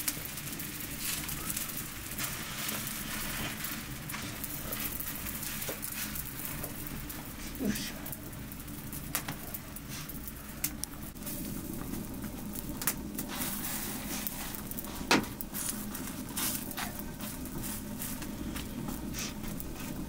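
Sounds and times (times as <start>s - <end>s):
loud fire snap: 0.0s - 20.0s
wood fire crackling: 0.0s - 20.0s.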